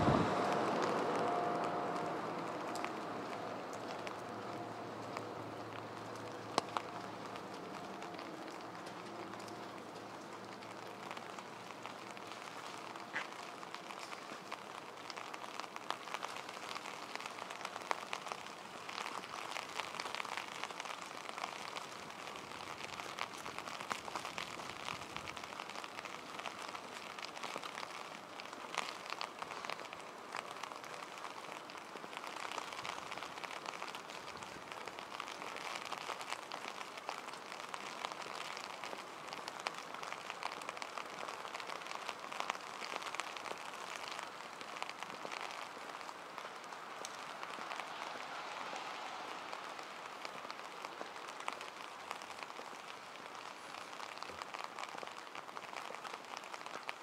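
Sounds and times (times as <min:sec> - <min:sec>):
close raindrop ticks: 0:00.0 - 0:57.0
steady rain on wet streets: 0:00.0 - 0:57.0.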